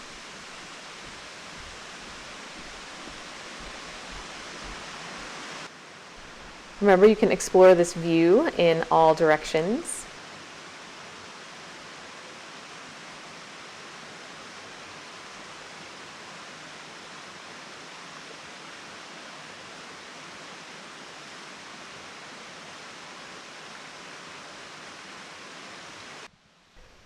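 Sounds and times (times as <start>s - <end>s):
waterfall rushing: 0.0s - 26.3s.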